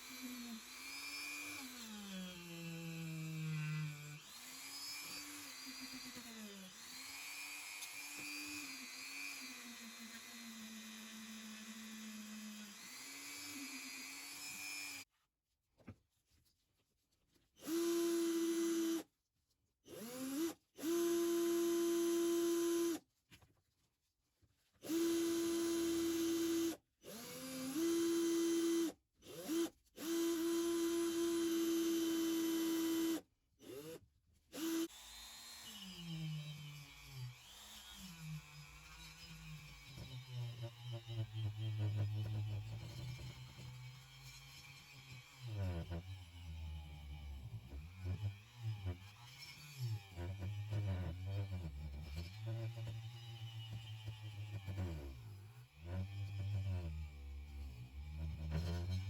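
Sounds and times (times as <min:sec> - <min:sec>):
small electric power tool running: 0:00.0 - 0:15.0, 0:24.9 - 0:34.0, 0:34.6 - 0:59.0.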